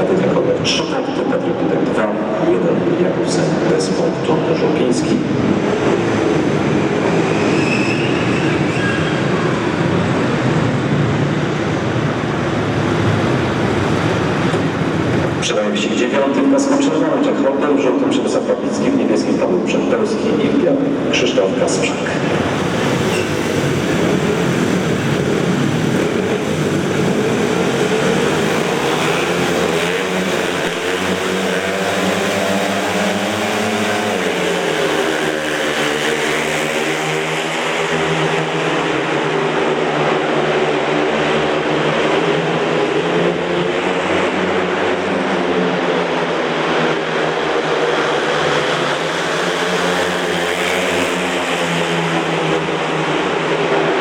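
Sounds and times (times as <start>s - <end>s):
racing motorcycle engines: 0.0s - 54.0s.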